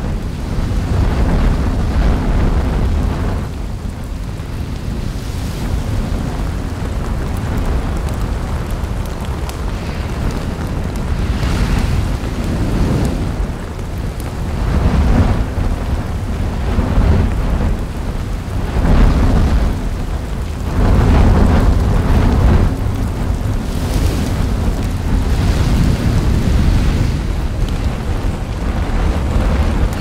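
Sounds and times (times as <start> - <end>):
lava rumbling and spattering: 0.0 - 30.0.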